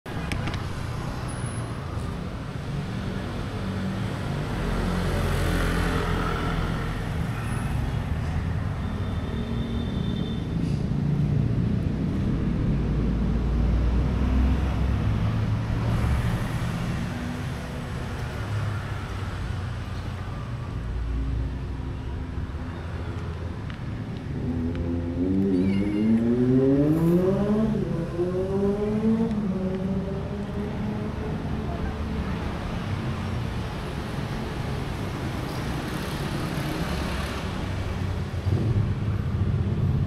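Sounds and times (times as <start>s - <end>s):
road traffic rumble: 0.1s - 40.0s.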